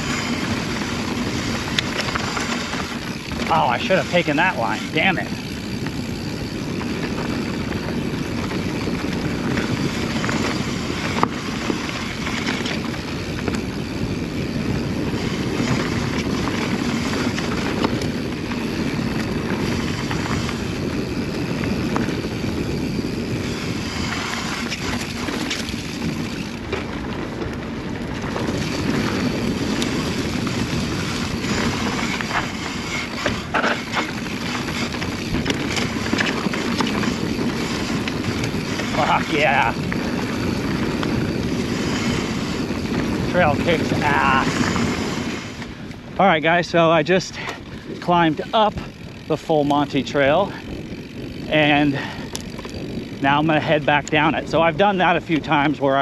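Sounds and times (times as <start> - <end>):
bike rattling over bumps: 0.0 - 56.0
tyres rolling on dirt trail: 0.0 - 56.0
wind on microphone: 0.0 - 56.0.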